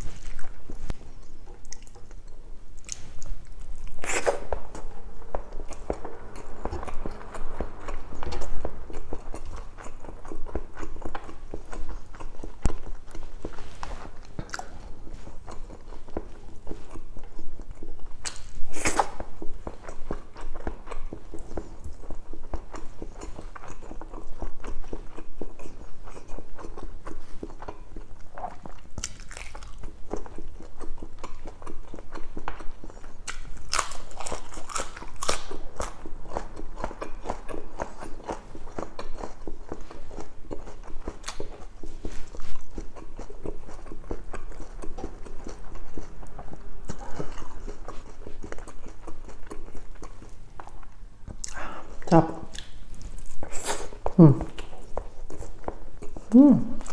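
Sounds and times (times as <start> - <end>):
wet chewing mouth noises: 0.0 - 56.9.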